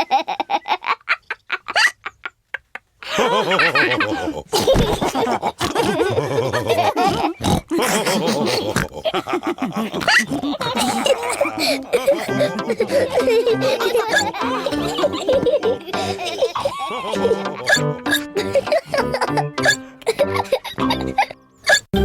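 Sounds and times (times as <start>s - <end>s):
cartoon voices laughing with snorts: 3.0s - 21.8s.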